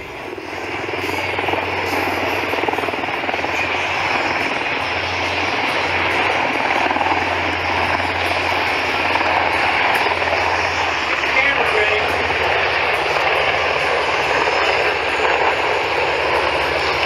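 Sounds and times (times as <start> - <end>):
aircraft and helicopters droning past: 0.0 - 17.0.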